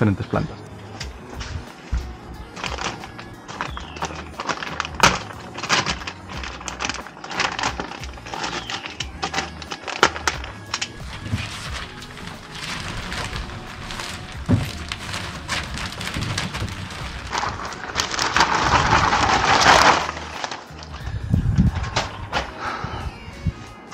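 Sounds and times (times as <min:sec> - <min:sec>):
bags of soil crackling and rustling: 0:00.0 - 0:22.8
background music: 0:00.0 - 0:23.9.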